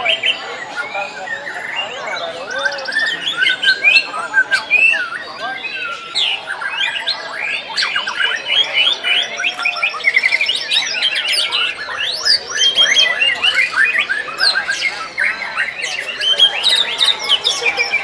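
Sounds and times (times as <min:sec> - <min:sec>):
songbirds singing in chorus: 0:00.0 - 0:18.0.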